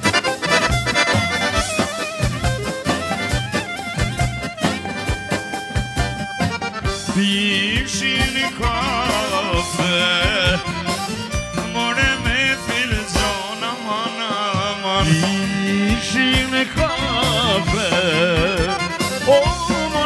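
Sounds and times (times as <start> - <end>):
folk music ornamented melody: 0.0 - 20.0.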